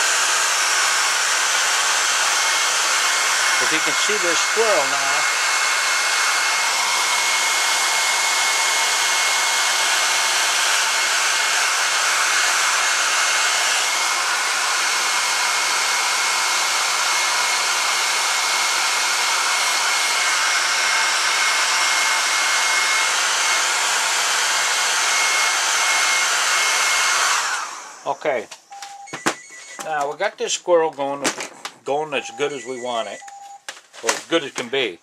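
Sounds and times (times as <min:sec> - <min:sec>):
hair dryer running: 0:00.0 - 0:30.1.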